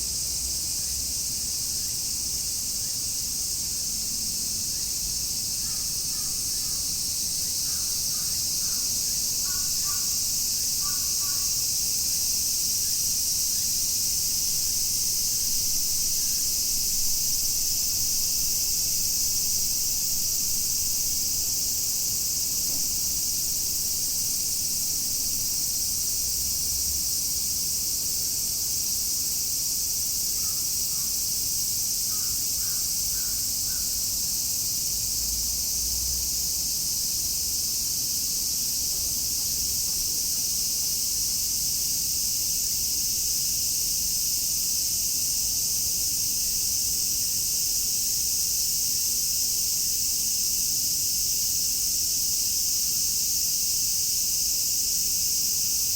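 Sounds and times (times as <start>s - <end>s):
cicadas singing: 0.0s - 55.9s.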